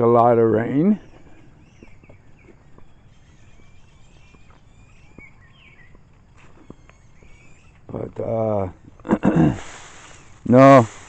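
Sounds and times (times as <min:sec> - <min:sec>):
low outdoor hum: 0:00.0 - 0:11.0
small birds chirping: 0:00.0 - 0:11.0.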